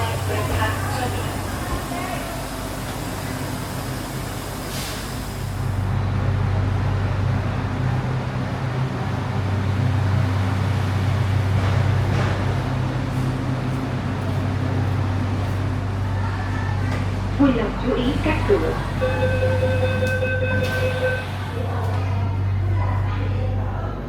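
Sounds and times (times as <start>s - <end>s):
train hum and rumble: 0.0s - 24.0s.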